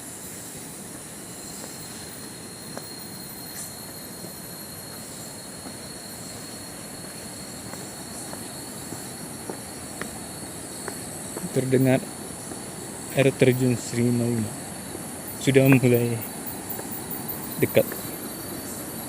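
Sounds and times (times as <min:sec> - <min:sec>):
insects singing: 0:00.0 - 0:19.0.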